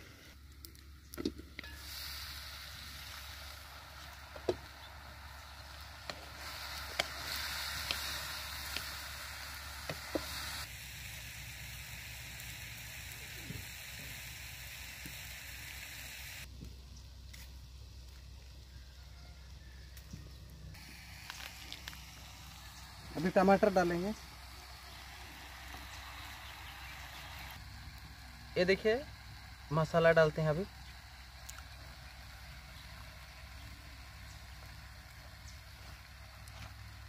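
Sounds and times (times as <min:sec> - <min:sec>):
vegetables sizzling in pan: 0:01.6 - 0:16.5, 0:20.8 - 0:37.0.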